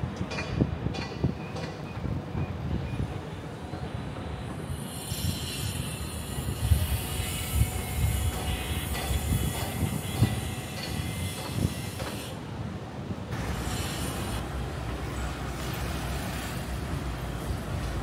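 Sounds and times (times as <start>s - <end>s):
traffic rumble with hiss: 2.1s - 18.0s.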